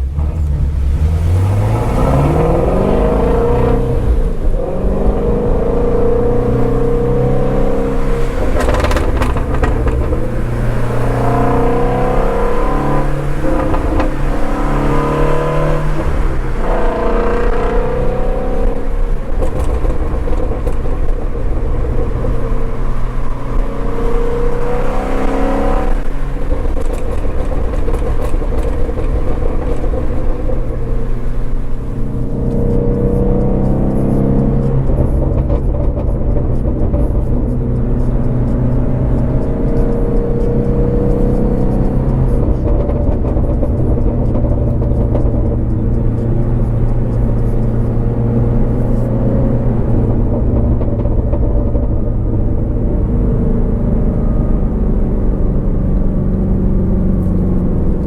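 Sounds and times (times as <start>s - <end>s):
car engine revving: 0.0s - 58.0s
exhaust crackles: 0.0s - 58.0s.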